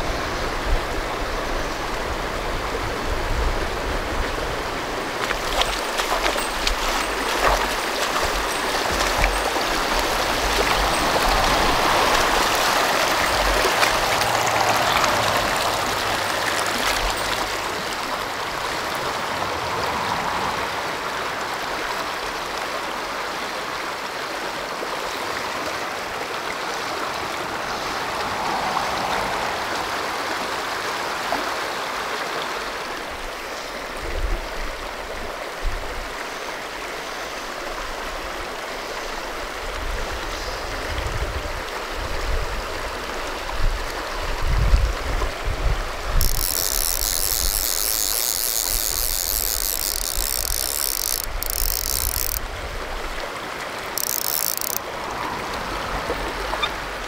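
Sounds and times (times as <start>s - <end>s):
creek rushing over rocks: 0.0s - 57.0s.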